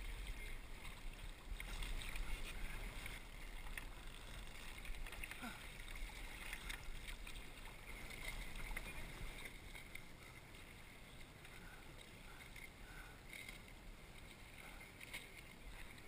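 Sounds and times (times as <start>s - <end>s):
water splashing against kayak hull: 0.0s - 16.0s.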